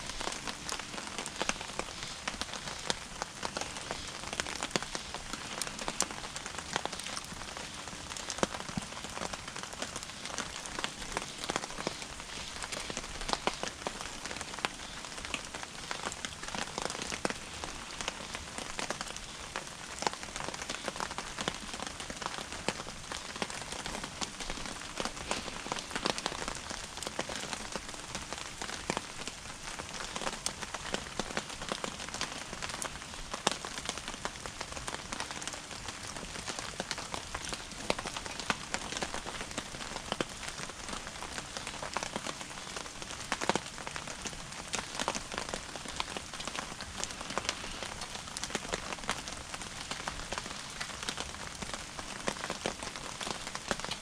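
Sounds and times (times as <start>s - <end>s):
wood fire crackling in stove: 0.0s - 54.0s.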